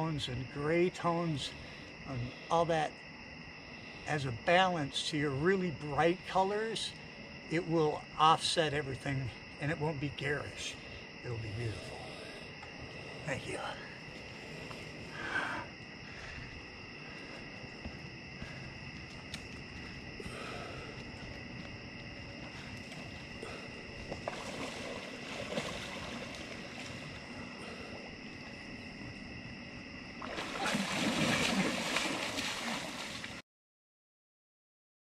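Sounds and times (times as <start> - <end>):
night insects chorus: 0.0 - 33.4.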